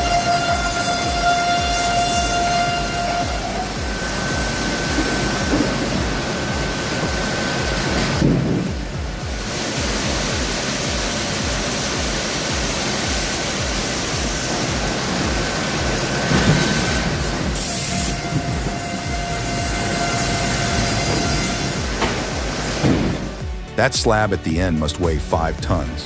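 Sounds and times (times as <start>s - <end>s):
background music with low beat: 0.0s - 26.0s
sawmill machinery cutting log: 0.0s - 26.0s.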